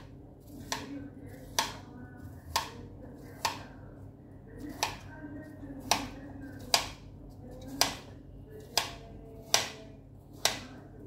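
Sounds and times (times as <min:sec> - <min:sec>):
knife chopping on cutting board: 0:00.0 - 0:03.7, 0:04.6 - 0:05.1, 0:05.8 - 0:10.8.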